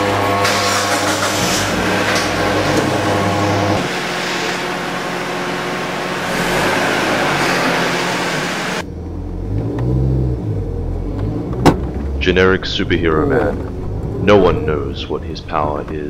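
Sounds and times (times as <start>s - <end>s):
car engine revving: 0.0s - 16.0s
engine rumble inside car cabin: 0.0s - 16.0s.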